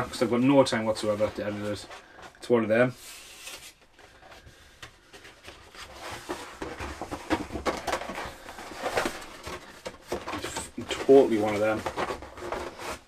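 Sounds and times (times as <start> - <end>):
cardboard record sleeve rustling: 0.0 - 13.0.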